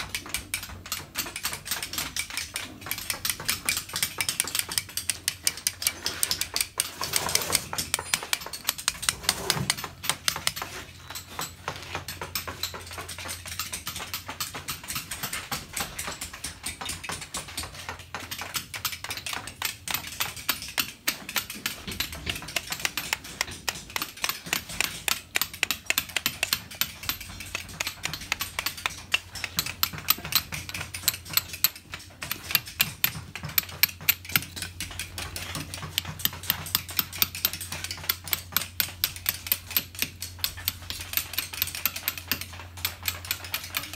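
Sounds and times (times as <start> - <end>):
chisels tapping on stone: 0.0 - 43.9.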